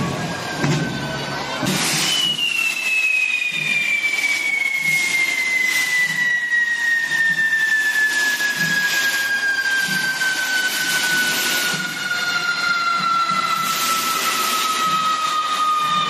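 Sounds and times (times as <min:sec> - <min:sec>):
firework fountains hissing: 0:00.0 - 0:16.0
high falling whistle: 0:00.0 - 0:16.0.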